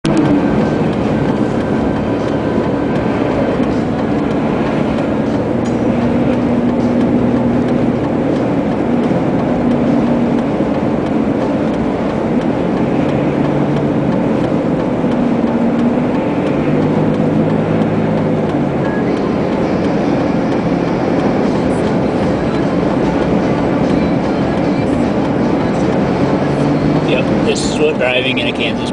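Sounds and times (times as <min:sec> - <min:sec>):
car engine hum: 0:00.0 - 0:28.9
road and wind noise: 0:00.0 - 0:28.9.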